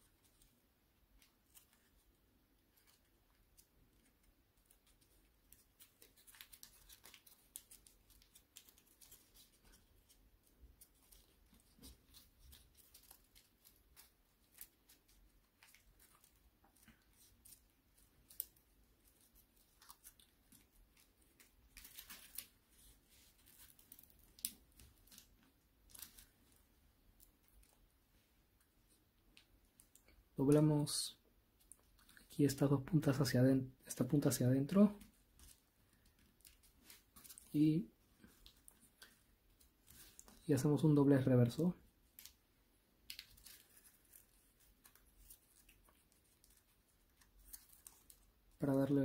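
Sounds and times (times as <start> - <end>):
paper rustling and crinkling: 0.0 - 30.2, 33.1 - 40.9, 43.0 - 49.0.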